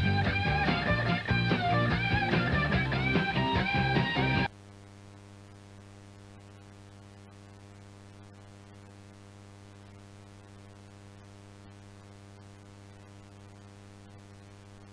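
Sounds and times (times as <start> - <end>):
electrical hum: 0.0 - 14.9
faint tape hiss: 0.0 - 14.9.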